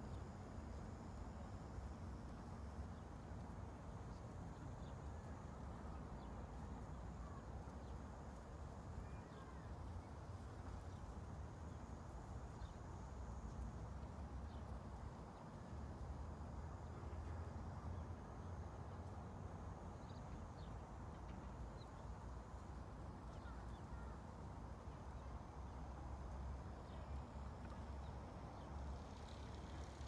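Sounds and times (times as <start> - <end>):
faint high chirps and ticks: 0.0 - 30.0
low ambient rumble and hiss: 0.0 - 30.0.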